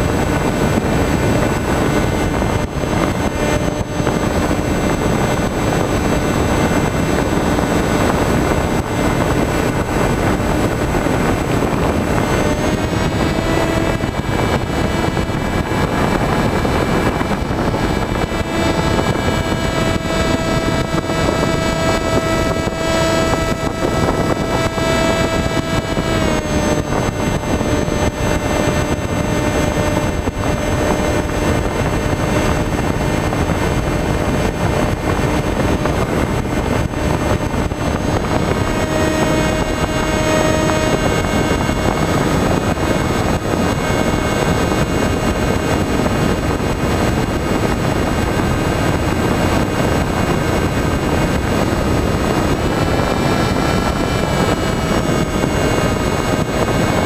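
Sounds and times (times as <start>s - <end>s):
electric motor and propeller whining: 0.0s - 57.0s
wind rushing: 0.0s - 57.0s.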